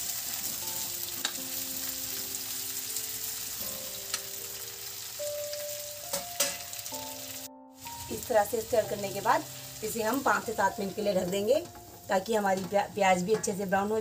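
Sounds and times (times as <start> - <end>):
soft background music: 0.0 - 14.0
vegetables sizzling in oil: 0.0 - 14.0.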